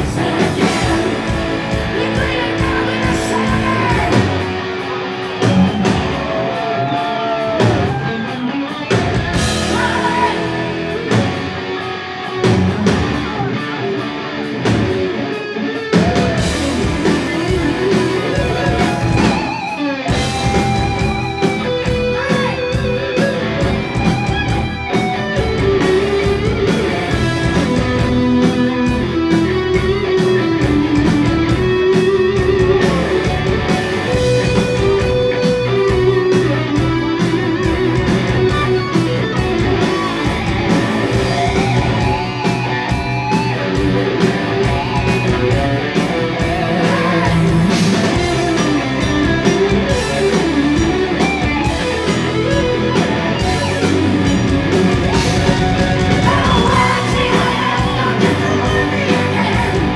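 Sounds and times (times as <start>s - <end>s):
bass guitar: 0.0s - 59.9s
distorted electric guitars: 0.0s - 59.9s
drums: 0.0s - 59.9s
lead guitar melody: 0.0s - 59.9s.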